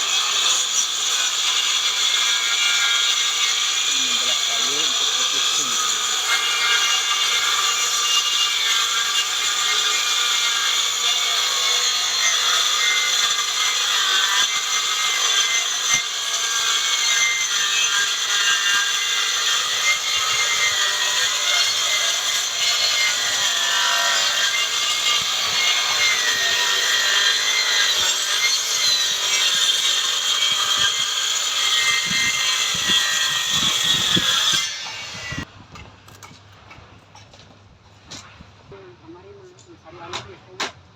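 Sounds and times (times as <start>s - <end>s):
circular saw cutting wood: 0.0s - 35.5s.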